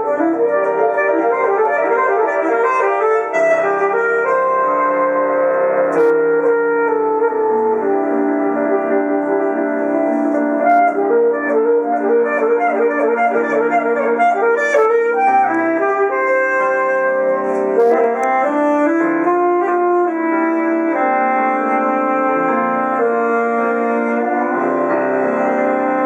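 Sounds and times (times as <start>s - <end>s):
alto saxophone playing: 0.0s - 26.0s
piano accompaniment: 0.0s - 26.0s.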